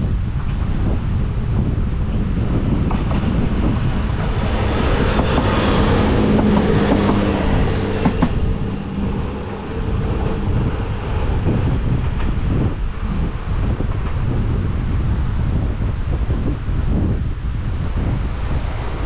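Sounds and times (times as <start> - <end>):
railcar passing with running hum: 0.0 - 19.0
wind buffeting microphone: 0.0 - 19.0.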